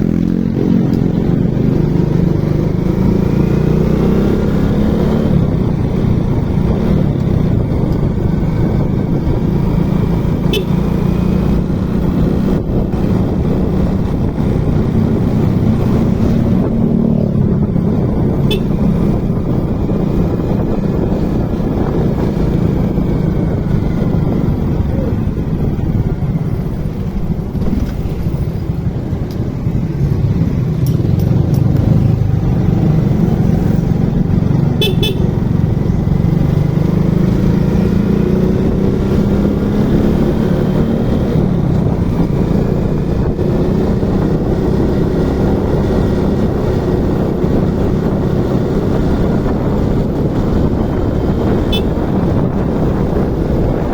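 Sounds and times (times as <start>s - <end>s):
motorcycle engine running: 0.0s - 53.9s
road and wind noise: 0.0s - 53.9s.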